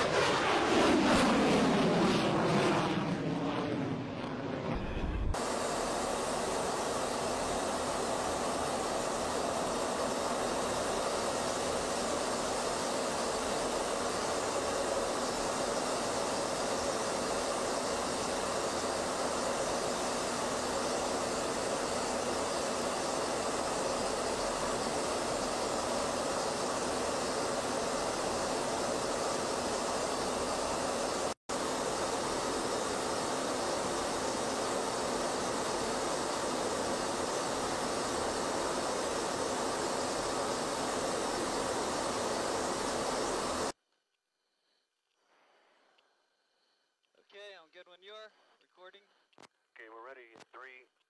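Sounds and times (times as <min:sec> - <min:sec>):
jet aircraft rushing noise: 0:00.0 - 0:43.8.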